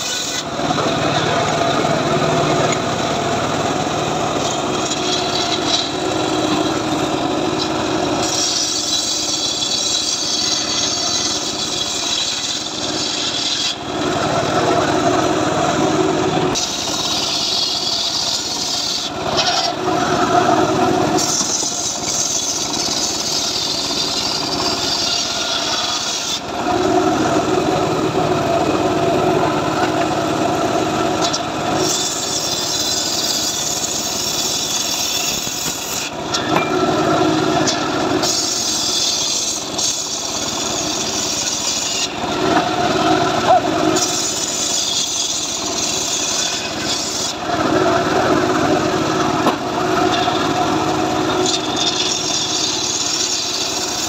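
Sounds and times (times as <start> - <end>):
circular saw cutting log: 0.0 - 54.0
saw motor running: 0.0 - 54.0.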